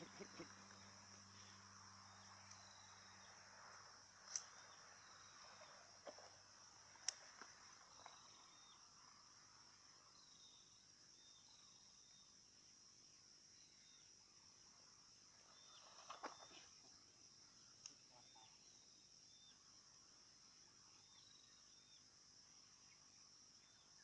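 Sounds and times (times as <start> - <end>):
high insect chirring: 0.0 - 24.0.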